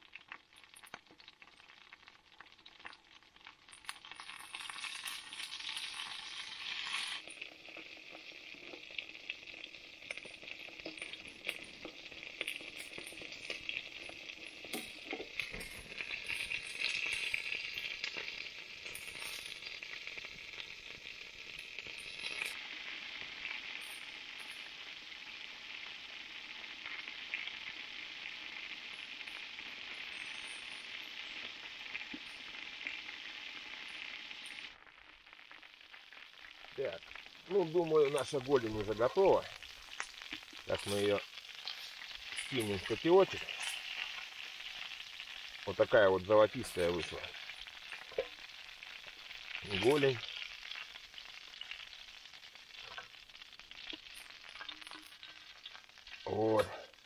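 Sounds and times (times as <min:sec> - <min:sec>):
chicken sizzling in oil: 0:00.0 - 0:57.0
oil popping: 0:00.0 - 0:57.0.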